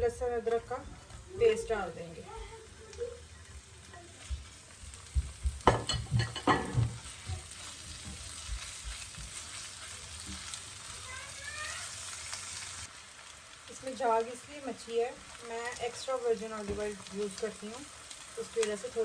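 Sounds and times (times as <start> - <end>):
paste sizzling in hot oil: 0.1 - 19.0.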